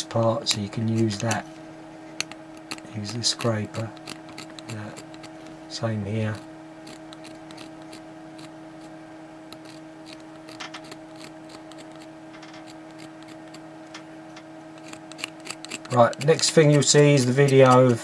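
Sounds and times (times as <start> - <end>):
scraper scratching metal: 0.0 - 1.5, 2.2 - 13.6, 14.7 - 18.0
steady hum: 0.0 - 18.0.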